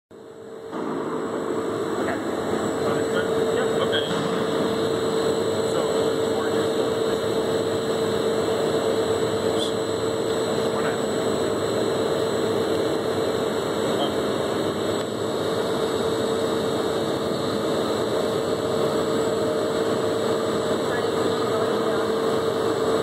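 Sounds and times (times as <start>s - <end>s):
agitator mechanical hum: 0.1s - 23.0s
faint high whine: 0.2s - 23.0s.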